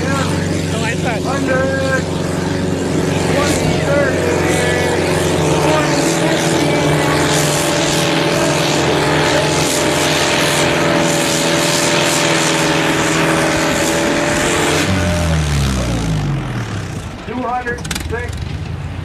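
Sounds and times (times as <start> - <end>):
tractor engine running hard: 0.0 - 19.0.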